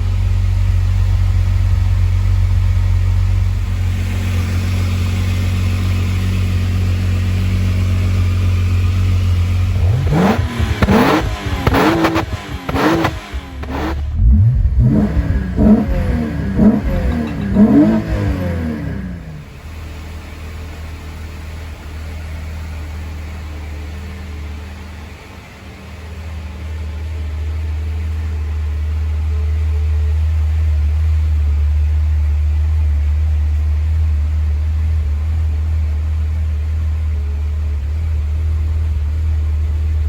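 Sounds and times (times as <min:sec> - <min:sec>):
car engine exhaust drone: 0:00.0 - 0:40.0.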